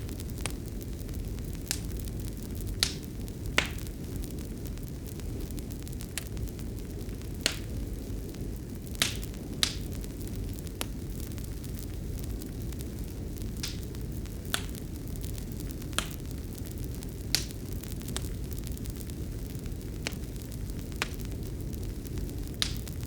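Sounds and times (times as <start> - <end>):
fire burning low rumble: 0.0 - 23.0
wood crackling and popping: 0.0 - 23.0.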